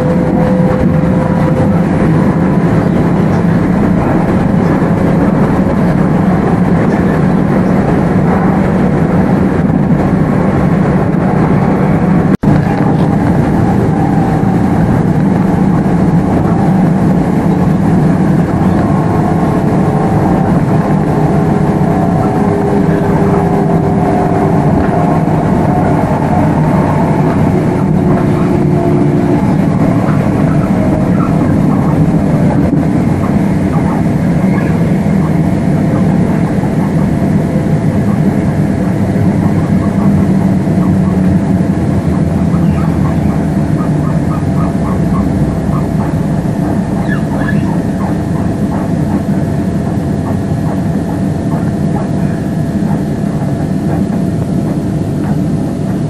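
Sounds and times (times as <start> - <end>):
train motor whine: 0.0 - 56.0
train wheels rumbling on rail: 0.0 - 56.0.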